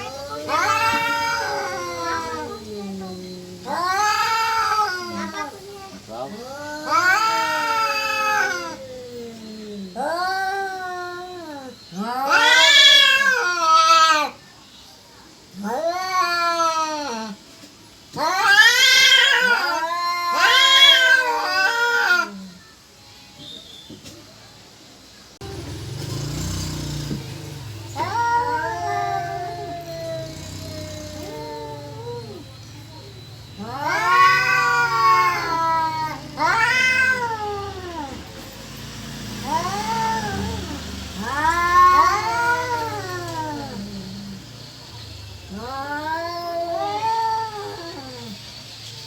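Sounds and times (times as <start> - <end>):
cats yowling: 0.0 - 14.5, 15.5 - 17.4, 18.1 - 22.7, 25.5 - 49.0.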